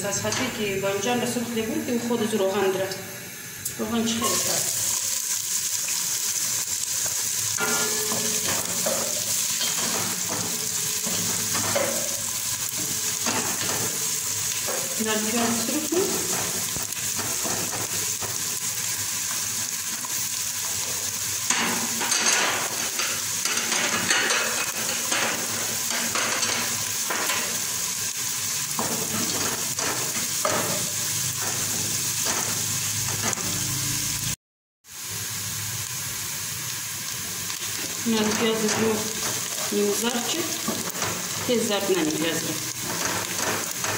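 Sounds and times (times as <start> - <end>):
onions sizzling in oil: 0.0 - 43.9.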